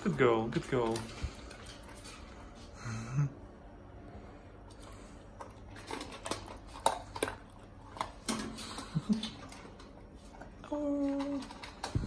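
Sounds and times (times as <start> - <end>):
dog crunching dry kibble: 0.0 - 2.4, 4.7 - 12.0.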